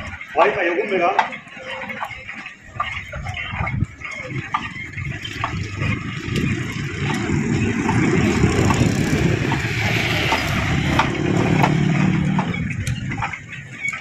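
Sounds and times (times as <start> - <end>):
rolling shutter gear rattling: 0.0 - 14.0.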